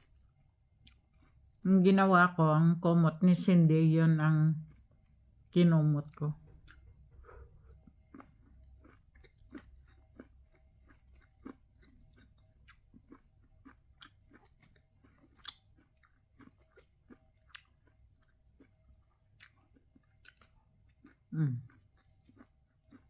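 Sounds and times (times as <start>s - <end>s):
chewing corn crunches: 0.0s - 1.7s, 4.6s - 5.6s, 6.4s - 23.0s.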